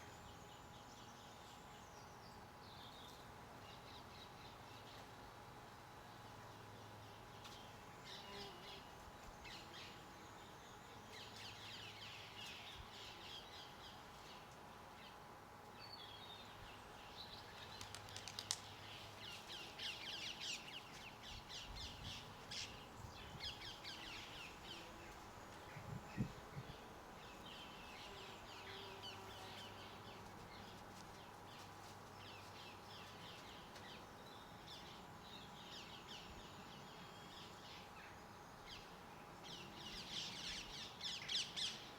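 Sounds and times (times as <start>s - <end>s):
garden birds chirping: 0.0s - 41.9s.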